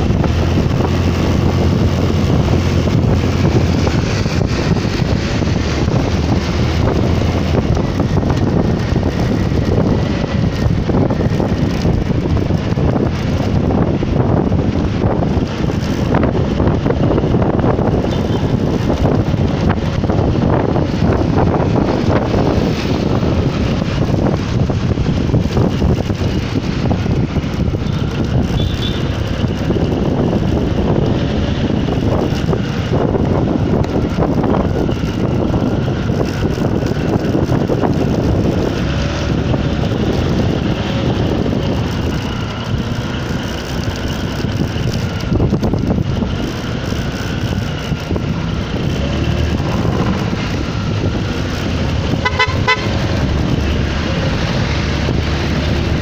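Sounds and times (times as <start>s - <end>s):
vehicle road noise: 0.0s - 56.0s
wind rushing over microphone: 0.0s - 56.0s.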